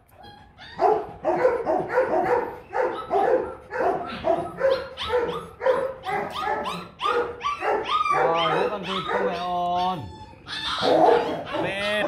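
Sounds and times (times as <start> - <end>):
dogs barking rapidly: 0.0 - 12.0.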